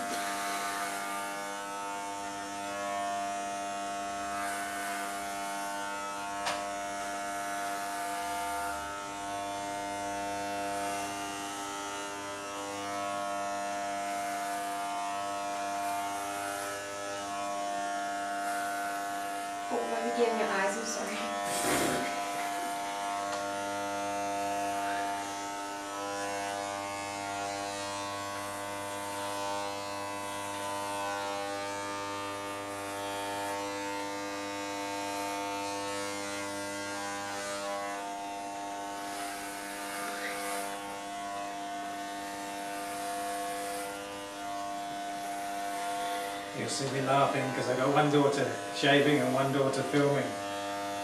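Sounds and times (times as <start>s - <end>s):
electric hair clippers buzzing: 0.0s - 51.0s.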